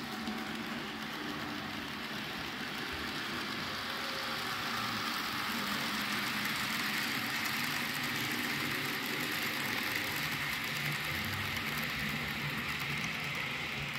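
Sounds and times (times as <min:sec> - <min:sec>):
model train wheels rattling on rails: 0:00.0 - 0:13.9.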